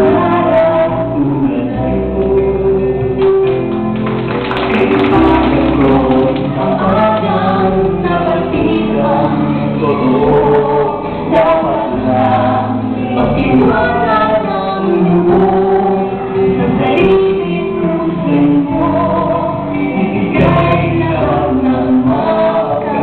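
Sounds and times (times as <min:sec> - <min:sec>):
voices singing in chorus: 0:00.0 - 0:02.3, 0:04.7 - 0:23.0
instrumental accompaniment: 0:00.0 - 0:23.0.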